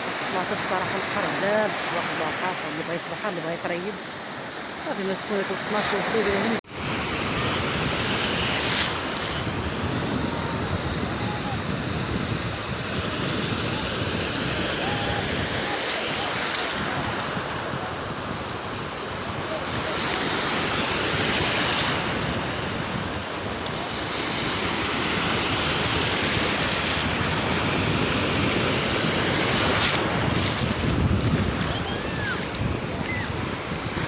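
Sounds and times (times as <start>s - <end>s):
waves breaking on beach: 0.0s - 34.0s.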